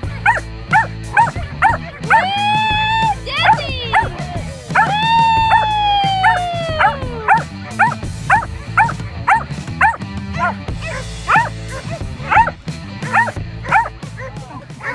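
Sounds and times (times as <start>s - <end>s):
small dog yipping: 0.3s - 2.5s, 4.8s - 14.9s.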